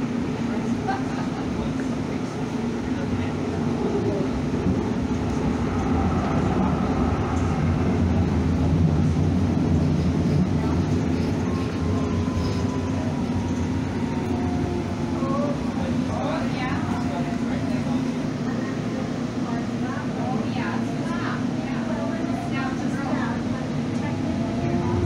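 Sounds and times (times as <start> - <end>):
light rail wheels rumbling: 0.0 - 25.0.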